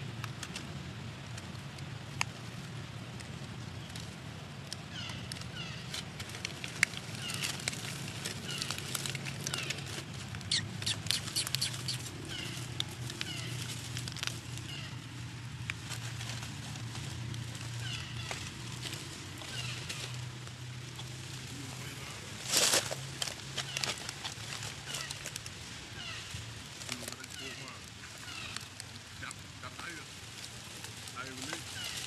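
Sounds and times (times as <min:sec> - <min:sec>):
dry leaves crackling: 0:00.0 - 0:32.0.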